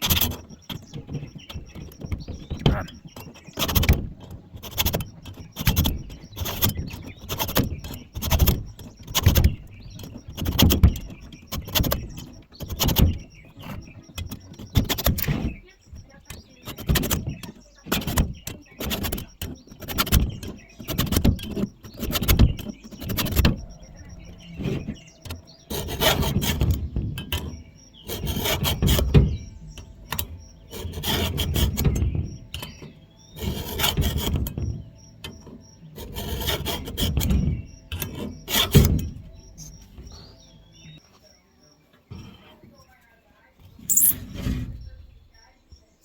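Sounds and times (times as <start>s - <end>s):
hand file rasping on chain: 0.0s - 15.6s, 16.4s - 40.4s.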